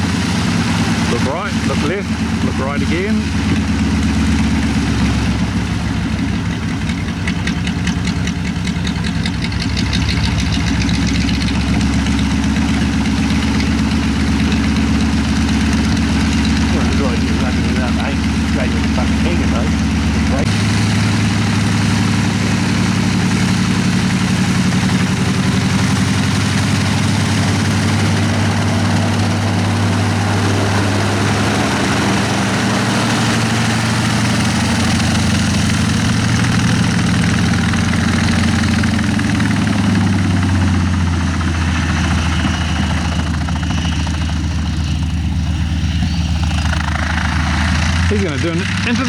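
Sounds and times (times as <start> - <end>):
radial aircraft engine running: 0.0 - 49.0.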